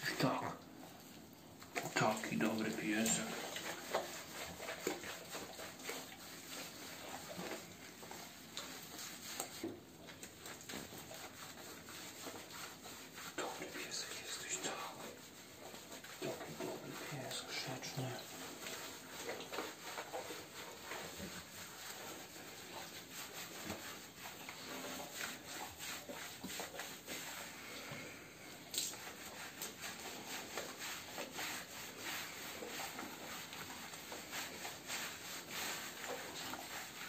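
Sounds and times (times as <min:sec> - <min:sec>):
wet rubbing strokes on dog fur: 0:00.0 - 0:37.0.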